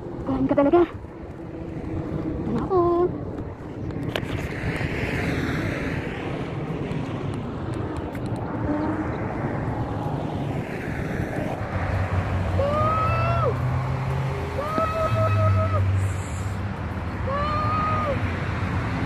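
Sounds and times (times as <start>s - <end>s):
passing vehicle rushing: 1.0s - 19.0s.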